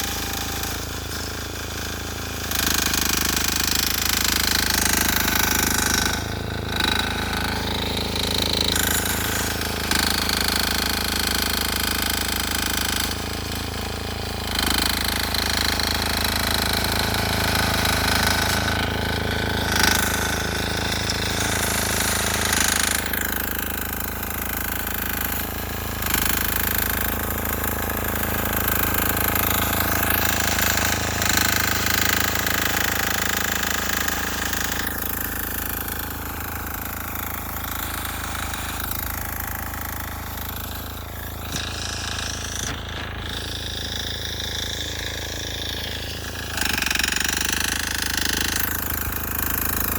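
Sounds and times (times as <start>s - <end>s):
diesel engine knocking: 0.0s - 49.9s.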